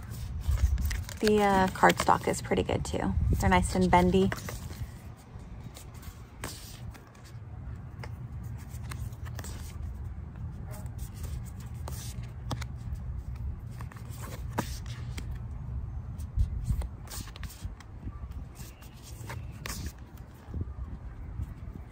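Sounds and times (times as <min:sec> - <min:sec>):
cards being flipped by hand: 0:00.0 - 0:02.6, 0:03.6 - 0:15.5, 0:16.1 - 0:20.4.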